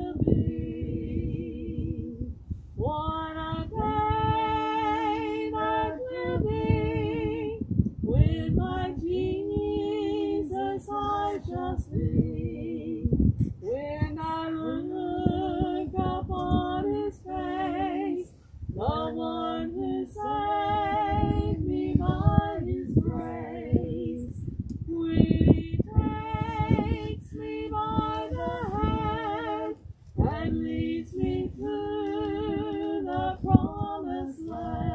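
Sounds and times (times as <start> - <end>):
wind rumble on microphone: 0.0 - 34.9
woman singing slow song: 0.0 - 34.9.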